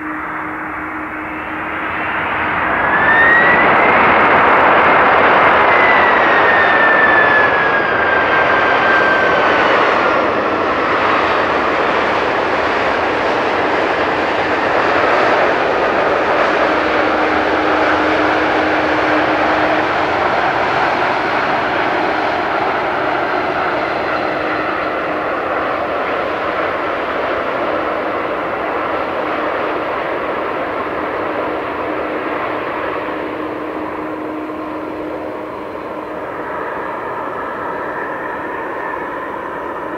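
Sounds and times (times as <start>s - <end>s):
high engine whine: 0.0s - 39.9s
jet engines roaring: 0.0s - 39.9s.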